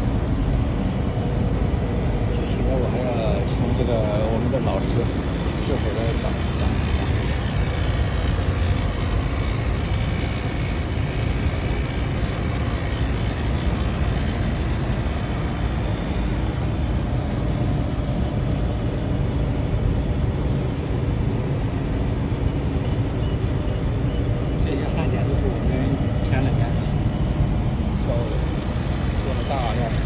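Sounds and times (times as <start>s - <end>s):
faint steady tones: 0.0s - 30.0s
hvac machinery drone: 0.0s - 30.0s.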